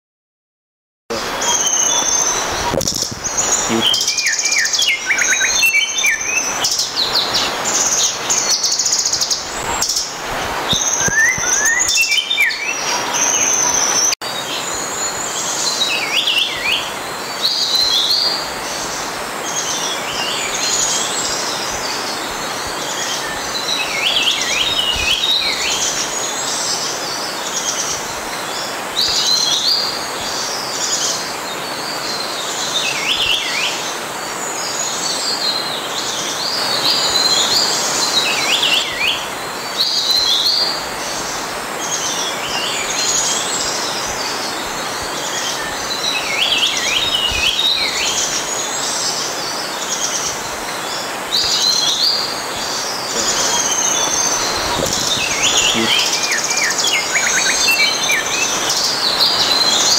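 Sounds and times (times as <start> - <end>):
birds chirping: 1.1 - 59.9.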